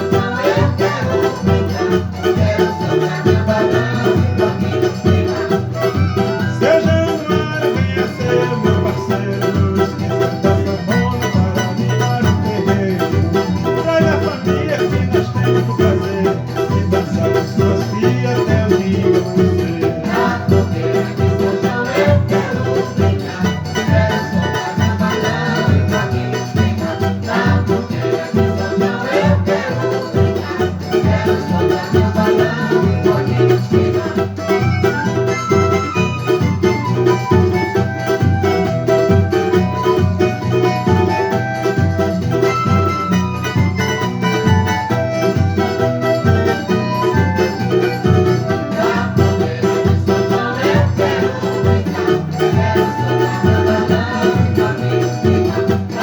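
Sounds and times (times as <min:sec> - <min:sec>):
plucked-string melody: 0:00.0 - 0:56.0.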